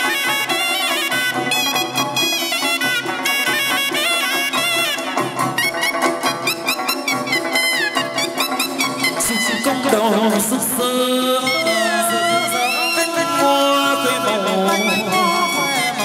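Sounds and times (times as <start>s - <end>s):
ornamented melody with sliding notes: 0.0s - 16.0s.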